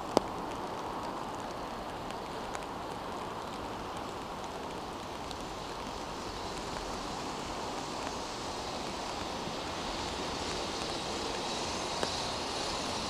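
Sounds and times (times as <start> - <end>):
freight train rumble: 0.0 - 13.0
rain hiss: 0.0 - 13.0.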